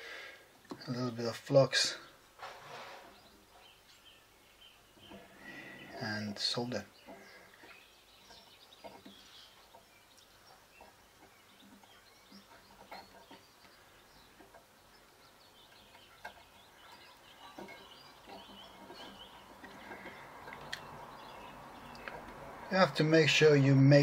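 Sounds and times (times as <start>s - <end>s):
faint bird chirps: 3.0s - 22.4s.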